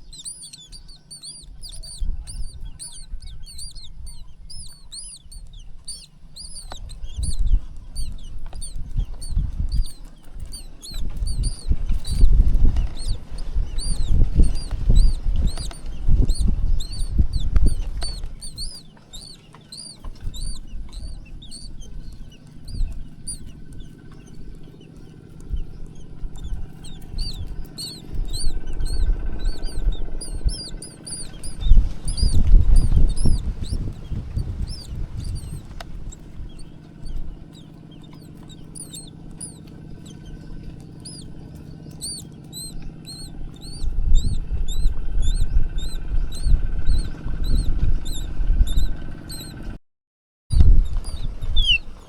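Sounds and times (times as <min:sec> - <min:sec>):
baby birds chirping: 0:00.0 - 0:49.8, 0:50.6 - 0:52.0
low rumbling noise: 0:00.0 - 0:49.8.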